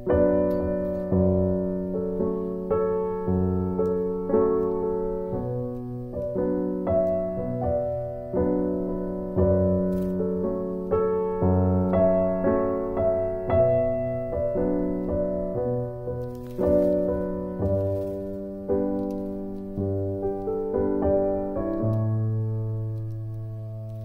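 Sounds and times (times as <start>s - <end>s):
soft piano music: 0.0s - 24.0s.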